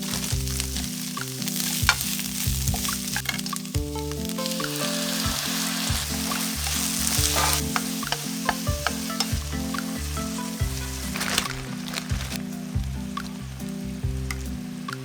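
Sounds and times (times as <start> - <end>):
background music with bass line: 0.0 - 15.0
food sizzling in a pan: 0.0 - 15.0.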